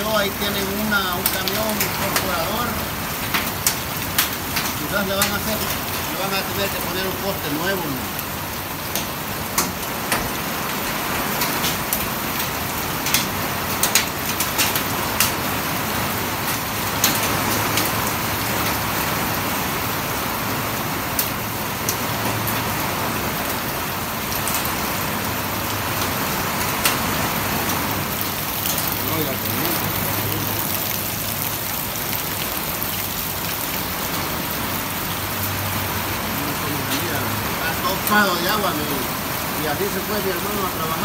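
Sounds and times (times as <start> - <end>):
heavy rain pouring: 0.0 - 41.0.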